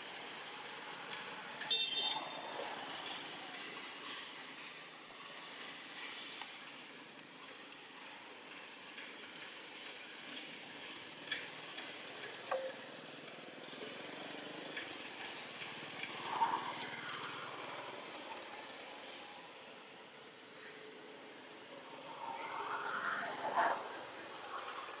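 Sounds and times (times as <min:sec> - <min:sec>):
faint outdoor hiss: 0:00.0 - 0:25.0.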